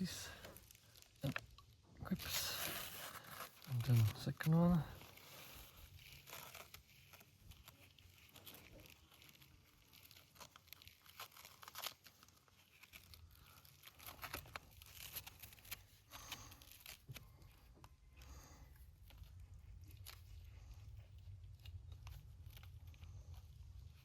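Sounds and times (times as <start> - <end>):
sandpaper rustling and crinkling: 2.1 - 24.0.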